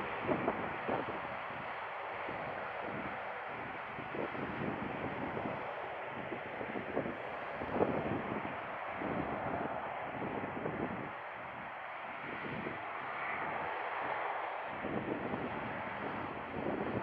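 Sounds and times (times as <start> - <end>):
jet engine roaring at takeoff: 0.0 - 17.0
wind buffeting microphone: 0.0 - 17.0.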